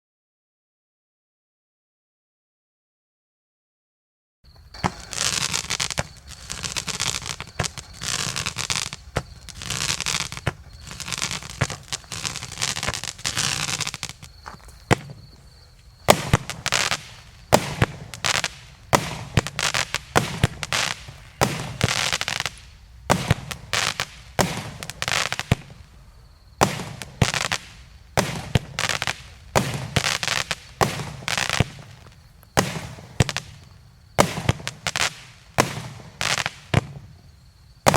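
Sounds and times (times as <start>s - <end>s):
firework bangs: 4.5s - 26.0s, 26.6s - 37.9s
firework shots hissing: 4.6s - 26.0s, 26.6s - 37.2s.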